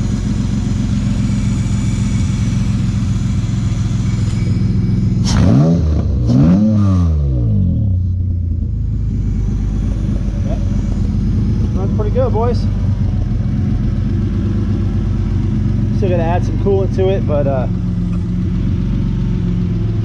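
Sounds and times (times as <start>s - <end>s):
engine idling: 0.0s - 20.0s
engine revving: 0.0s - 20.0s.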